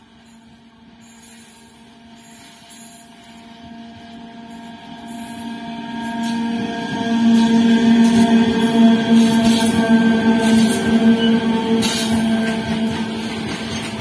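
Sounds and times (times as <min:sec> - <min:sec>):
electric locomotive hum: 0:00.0 - 0:14.0
train rail and running noise: 0:00.0 - 0:14.0.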